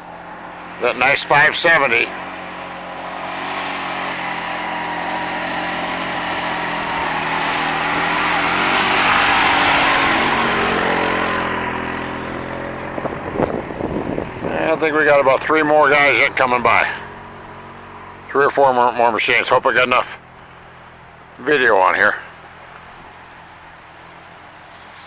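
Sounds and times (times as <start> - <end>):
off-road vehicle engine passing by: 0.0 - 25.0.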